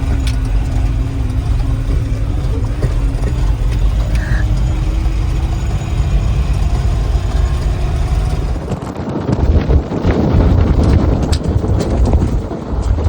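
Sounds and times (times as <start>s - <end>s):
large vehicle engine rumbling: 0.0s - 13.0s.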